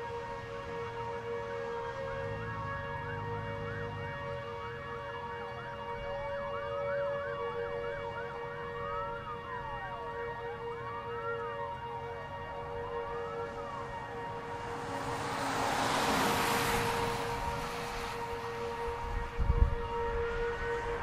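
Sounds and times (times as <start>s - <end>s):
siren wailing: 0.0s - 21.0s
steady siren tones: 0.0s - 21.0s
siren yelping: 1.8s - 21.0s.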